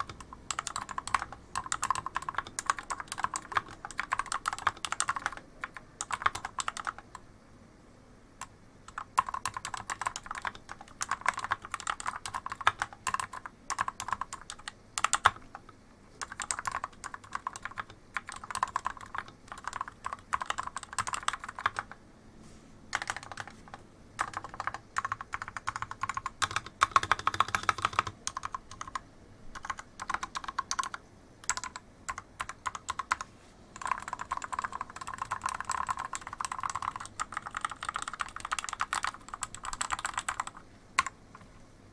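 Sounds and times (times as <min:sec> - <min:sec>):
typing on mechanical keyboard: 0:00.0 - 0:07.2, 0:08.4 - 0:22.0, 0:22.9 - 0:41.5.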